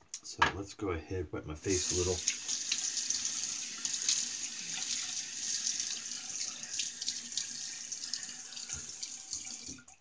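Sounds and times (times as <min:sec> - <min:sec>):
sink tap running: 0:01.7 - 0:10.0.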